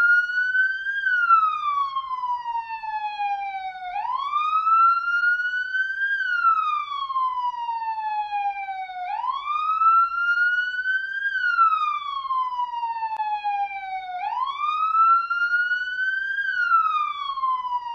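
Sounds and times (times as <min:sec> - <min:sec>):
police siren wailing: 0:00.0 - 0:17.9.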